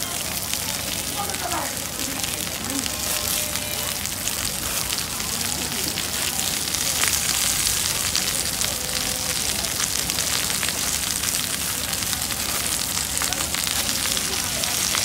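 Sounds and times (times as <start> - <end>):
vegetables sizzling on griddle: 0.0 - 15.0.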